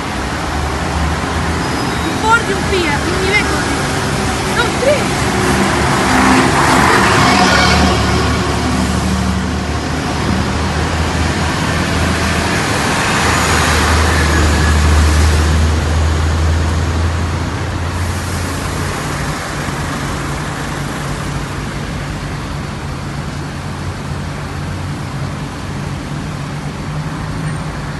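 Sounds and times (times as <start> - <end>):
diesel truck and bus engines: 0.0 - 27.9.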